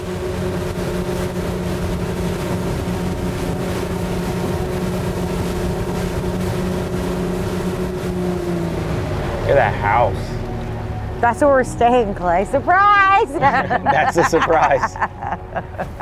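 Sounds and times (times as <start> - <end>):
outboard motor running: 0.0 - 16.0
water noise: 0.0 - 16.0.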